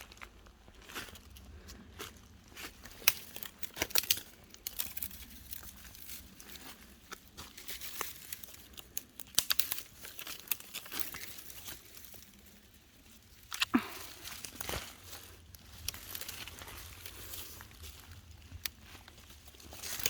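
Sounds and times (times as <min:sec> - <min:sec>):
footsteps crackling through undergrowth: 0:00.0 - 0:20.0.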